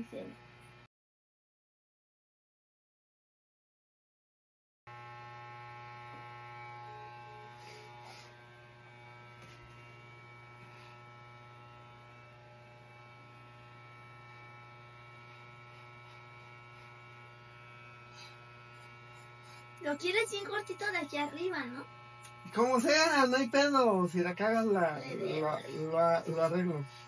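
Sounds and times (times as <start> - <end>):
electric hair clippers buzzing: 0.0 - 0.9, 4.9 - 27.0.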